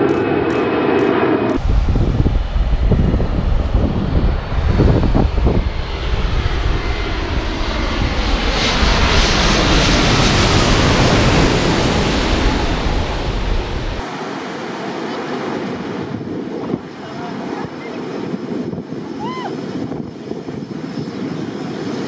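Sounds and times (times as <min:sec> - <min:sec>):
wind rumbling on microphone: 0:00.0 - 0:14.2, 0:15.5 - 0:22.0
jet airliner passing overhead: 0:00.0 - 0:22.0.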